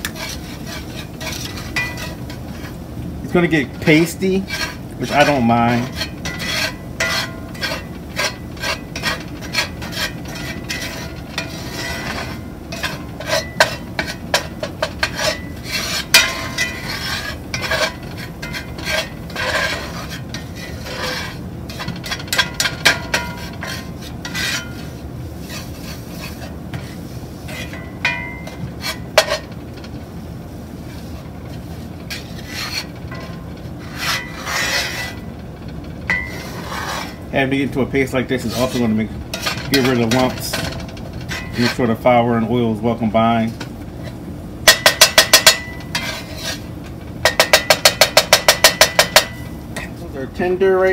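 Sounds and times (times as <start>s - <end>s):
spatula scraping roux in skillet: 0.0s - 42.1s, 43.9s - 50.0s.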